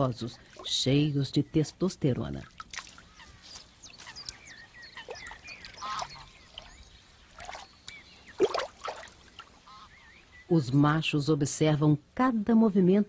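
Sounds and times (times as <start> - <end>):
waterbirds chirping: 0.0 - 11.7.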